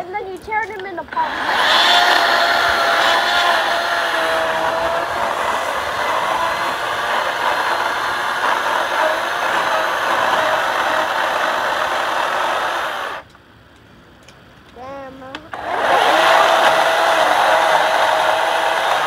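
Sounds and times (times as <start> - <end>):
electric chainsaw cutting wood: 1.1 - 13.3, 15.5 - 19.0.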